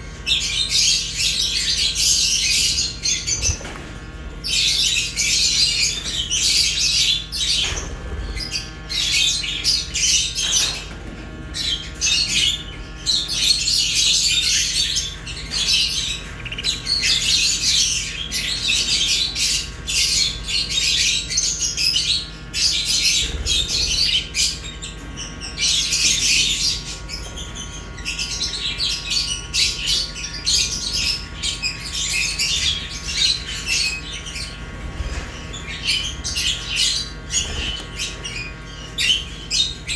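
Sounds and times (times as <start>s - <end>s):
flock of birds chirping and squawking: 0.0s - 39.9s.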